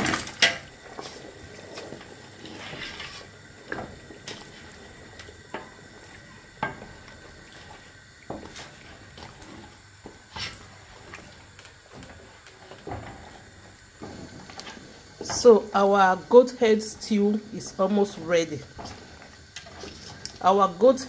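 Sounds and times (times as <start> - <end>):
stew simmering: 0.0 - 21.0.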